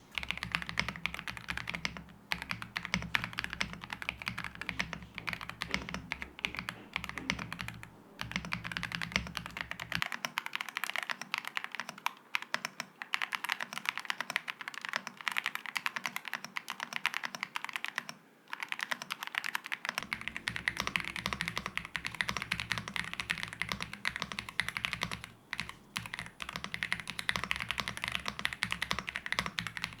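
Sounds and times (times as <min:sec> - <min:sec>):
fast mechanical keyboard typing: 0:00.1 - 0:30.0.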